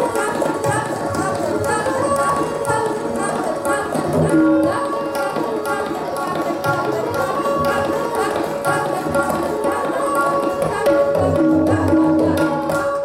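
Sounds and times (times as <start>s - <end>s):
tabla strokes: 0.0s - 13.0s.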